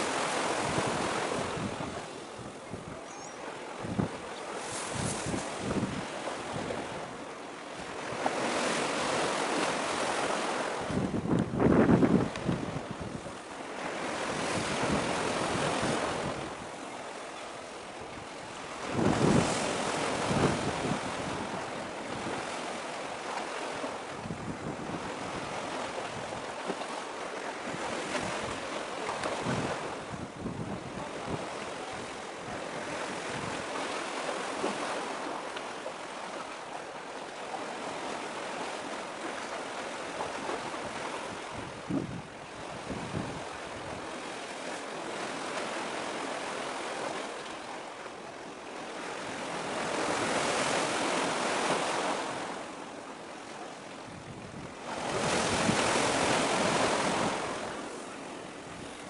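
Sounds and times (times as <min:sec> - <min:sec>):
small waves washing: 0:00.0 - 0:59.0.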